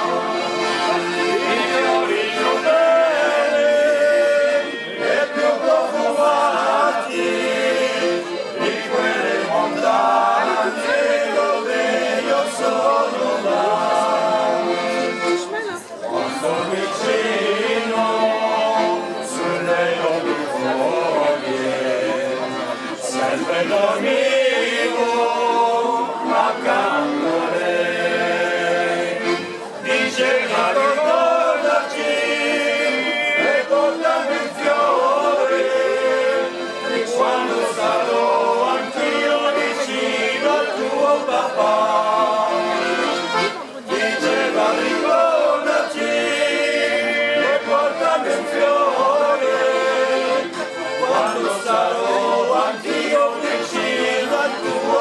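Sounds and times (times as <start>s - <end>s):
men singing folk song: 0.0s - 15.3s, 16.2s - 55.0s
fiddle playing: 0.0s - 55.0s.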